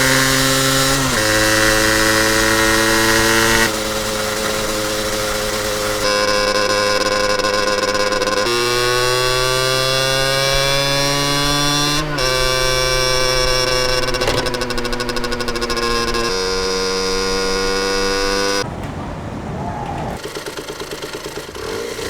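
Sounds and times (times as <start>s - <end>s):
two-stroke engine running: 0.0s - 18.6s, 20.2s - 22.0s.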